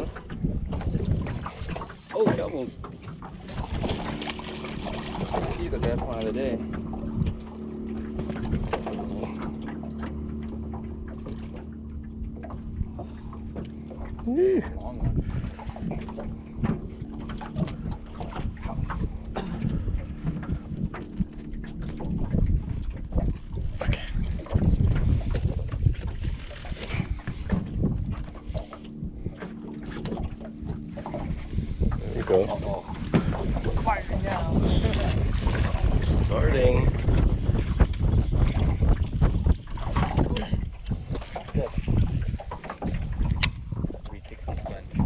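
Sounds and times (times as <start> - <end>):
water lapping against boat: 0.0 - 45.0
wind rumbling on microphone: 0.0 - 45.0
low steady hum: 3.6 - 45.0.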